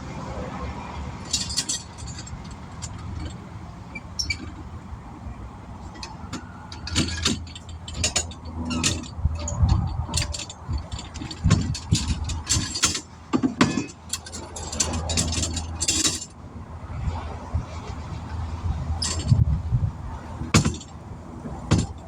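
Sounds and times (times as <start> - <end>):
metallic clanks and rattles: 1.2 - 18.1, 18.7 - 22.0.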